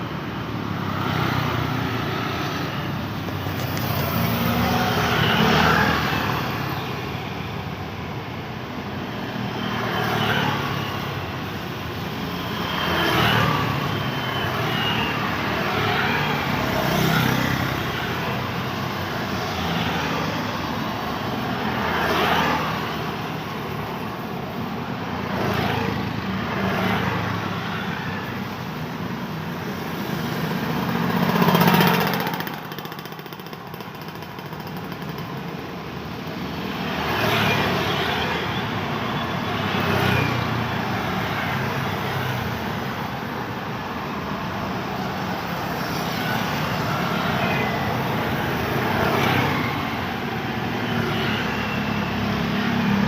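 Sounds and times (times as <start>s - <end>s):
steady traffic hum: 0.0s - 53.0s
motorcycles passing: 0.1s - 7.9s, 8.5s - 53.0s
cars passing: 9.1s - 53.0s.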